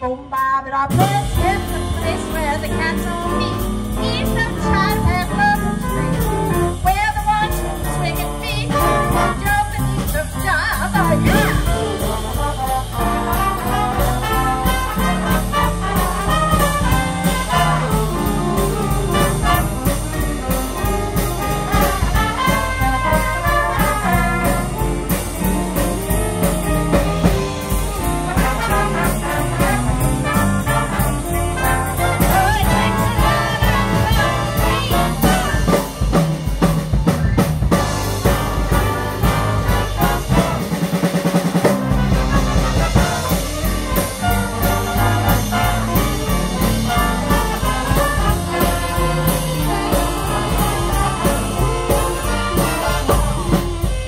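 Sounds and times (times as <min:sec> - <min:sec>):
swing big band playing: 0:00.0 - 0:54.0.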